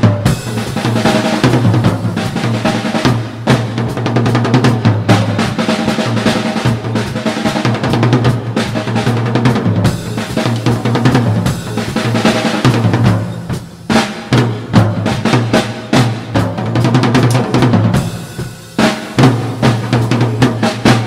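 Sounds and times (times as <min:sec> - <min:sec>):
ringing low drum tones: 0:00.0 - 0:05.7, 0:07.6 - 0:21.0
drum kit solo: 0:00.0 - 0:21.0.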